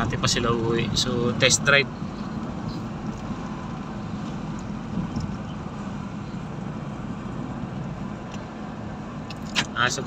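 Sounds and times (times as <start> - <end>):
car engine running: 0.0 - 10.0
road and tyre noise: 0.0 - 10.0.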